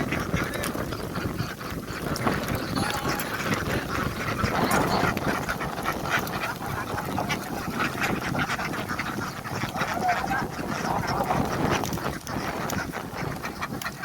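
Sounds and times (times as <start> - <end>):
flock of ducks quacking: 0.0 - 14.0.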